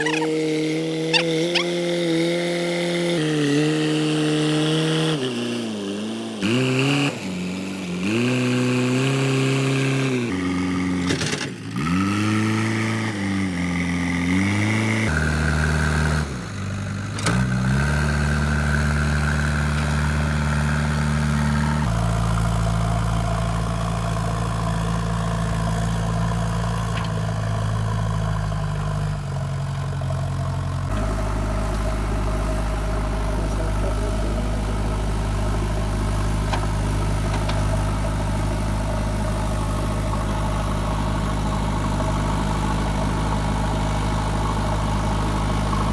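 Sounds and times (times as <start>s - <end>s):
diesel engine revving: 0.0s - 45.9s.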